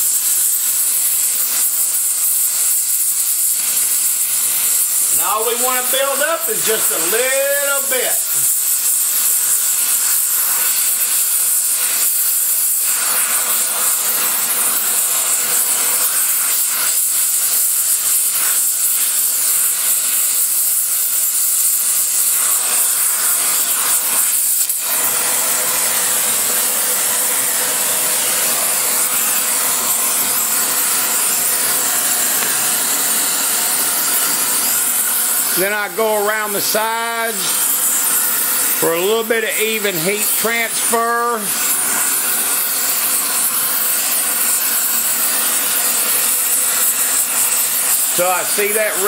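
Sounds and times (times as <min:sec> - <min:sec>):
torch flame hissing: 0:00.0 - 0:49.0.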